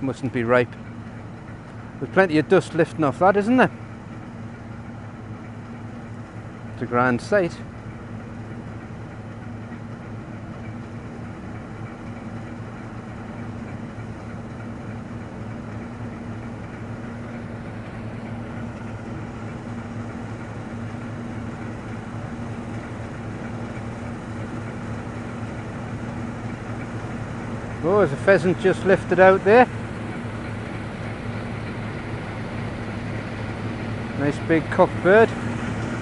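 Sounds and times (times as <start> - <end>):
combine harvester engine drone: 0.0 - 36.0.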